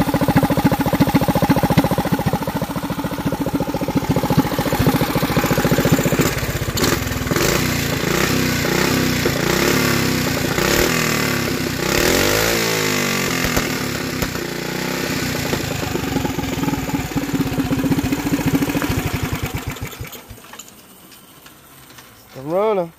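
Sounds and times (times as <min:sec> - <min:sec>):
minibike engine revving: 0:00.0 - 0:20.6.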